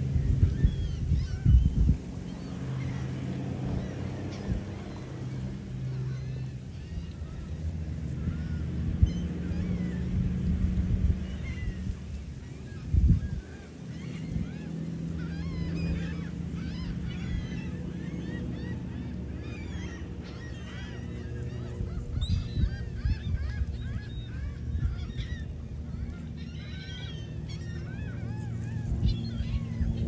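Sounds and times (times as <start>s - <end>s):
seagulls calling: 0.0s - 30.0s
steady low rumble: 0.0s - 30.0s.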